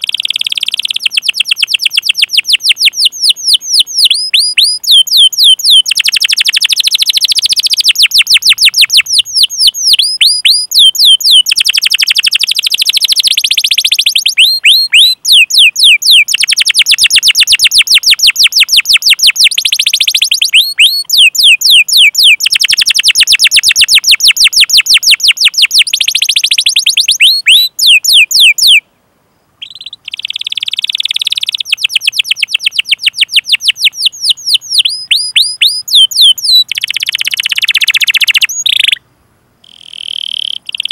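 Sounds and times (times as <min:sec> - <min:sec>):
canary singing: 0:00.0 - 0:28.8, 0:29.6 - 0:39.0, 0:39.6 - 0:40.9.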